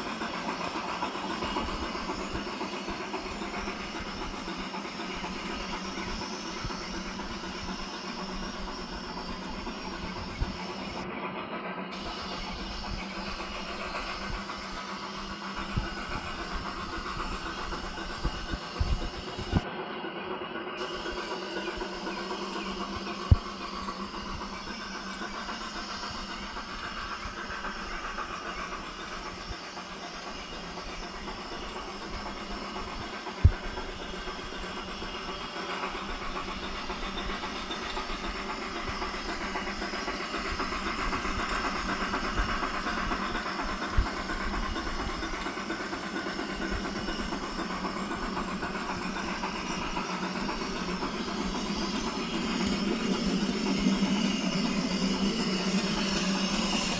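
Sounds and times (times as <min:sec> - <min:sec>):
model train locomotive engine sound: 0:00.0 - 0:56.9.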